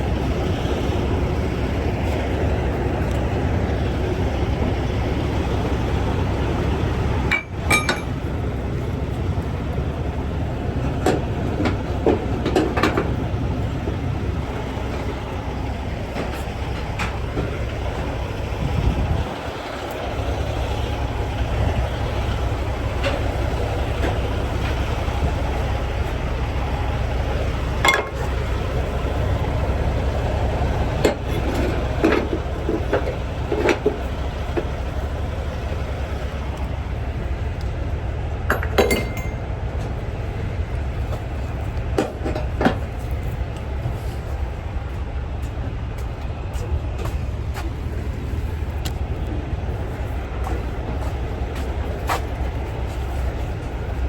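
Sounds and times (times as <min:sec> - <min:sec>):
diesel truck idling: 0:00.0 - 0:54.0.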